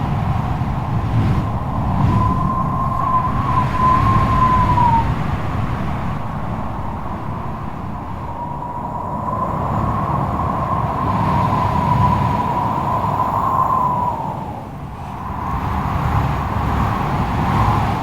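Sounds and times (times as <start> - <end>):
strong wind gusting: 0.0 - 18.0
wavering wind whistle: 0.0 - 18.0.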